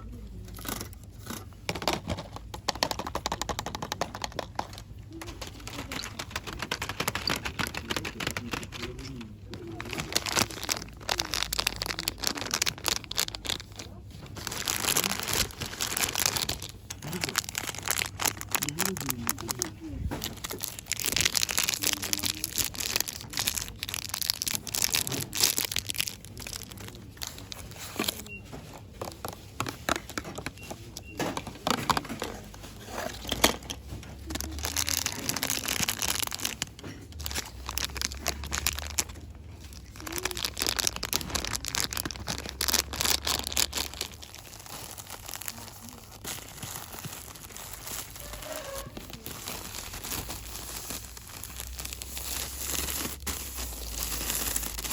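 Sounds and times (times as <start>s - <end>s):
packaging crinkling: 0.5s - 54.9s.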